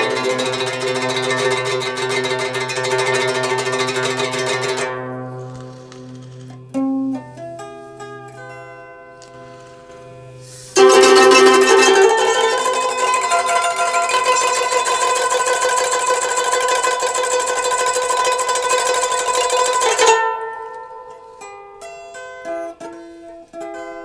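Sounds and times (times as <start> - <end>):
plucked string instrument music: 0.0 - 24.0.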